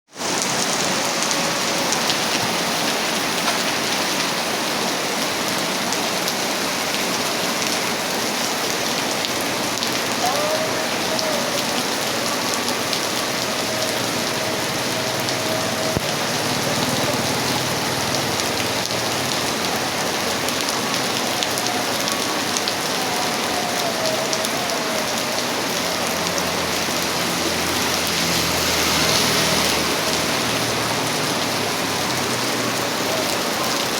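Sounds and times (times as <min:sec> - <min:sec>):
heavy rain splashing: 0:00.1 - 0:33.9.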